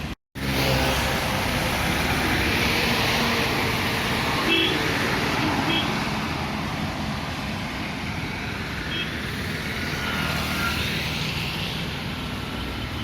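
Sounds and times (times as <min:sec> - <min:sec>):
traffic on wet roads: 0:00.0 - 0:13.0.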